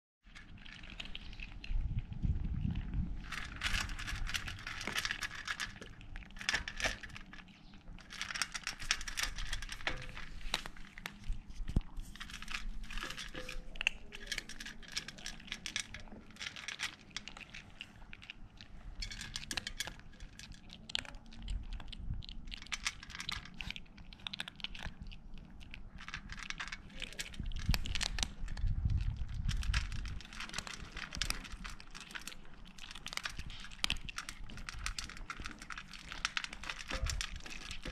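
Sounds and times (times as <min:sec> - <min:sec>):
kittens crunching dry kibble: 0:00.2 - 0:37.9.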